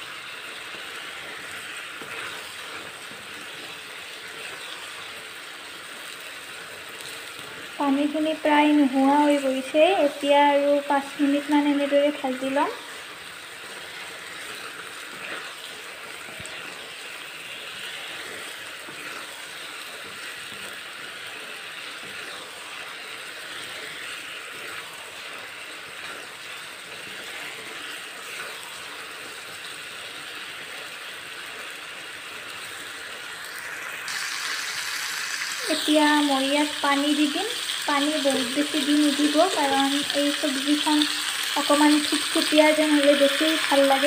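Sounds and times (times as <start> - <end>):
vegetables sizzling in pan: 0.0 - 44.0.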